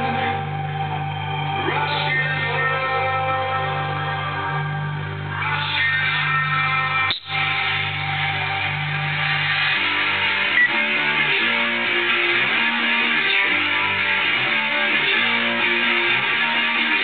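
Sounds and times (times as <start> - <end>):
plucked guitar-like melody: 0.0 - 17.0
trance music: 0.0 - 17.0.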